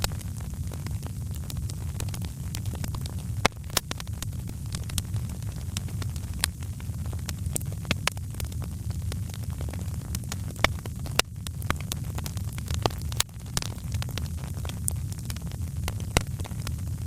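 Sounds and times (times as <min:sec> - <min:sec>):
low rumble of burning fire: 0:00.0 - 0:17.0
wood fire crackling: 0:00.0 - 0:17.0.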